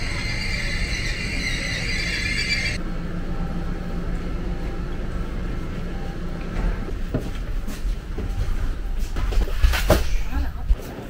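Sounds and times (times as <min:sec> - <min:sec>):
standing train rumble and hum: 0:00.0 - 0:11.0.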